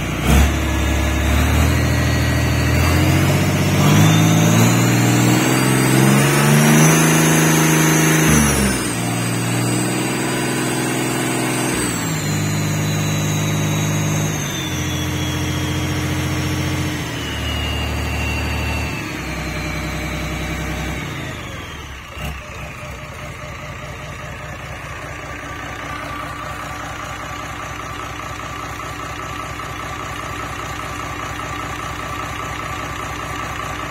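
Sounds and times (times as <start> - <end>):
marine diesel engine revving: 0.0 - 32.6
high engine whine: 0.0 - 33.9.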